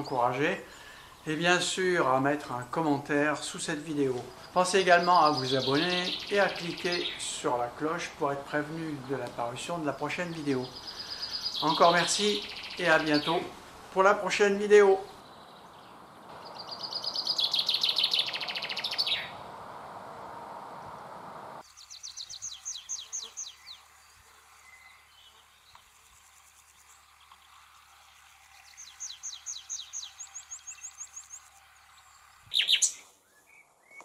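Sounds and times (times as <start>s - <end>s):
songbirds trilling: 0.0s - 34.0s.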